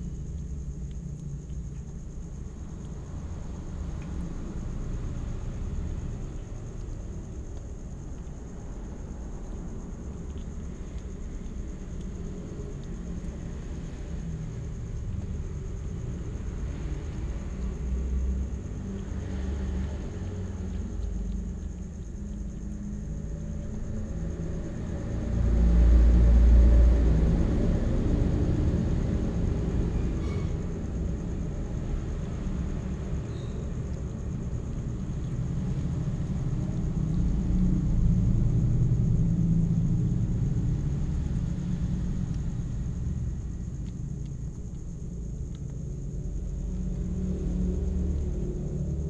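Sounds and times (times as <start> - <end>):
low rumble: 0.0 - 49.0.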